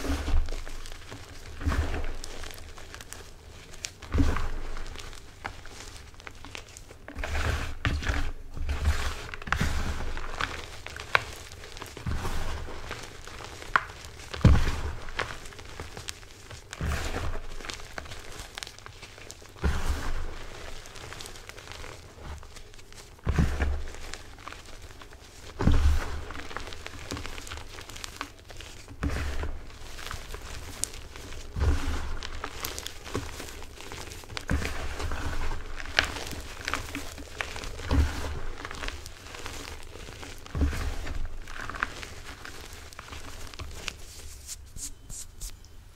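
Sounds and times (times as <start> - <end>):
hands crushing chalk and foam: 0.0 - 45.6.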